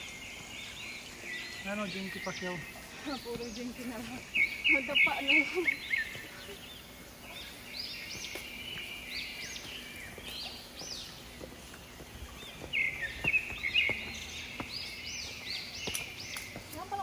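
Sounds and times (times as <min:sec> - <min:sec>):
forest birds chirping: 0:00.0 - 0:17.0
steady high hiss: 0:00.0 - 0:17.0.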